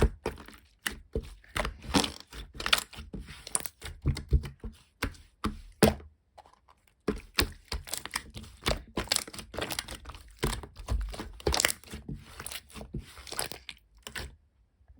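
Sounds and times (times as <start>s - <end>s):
hands squishing slime: 0.0s - 6.1s, 6.9s - 14.4s.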